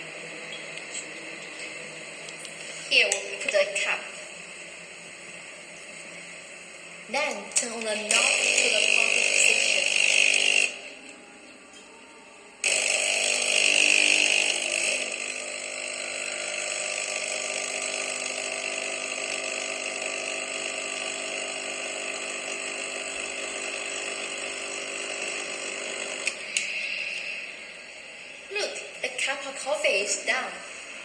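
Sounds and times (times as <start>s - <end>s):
coffee machine pump humming: 0.0s - 11.6s, 12.6s - 28.4s.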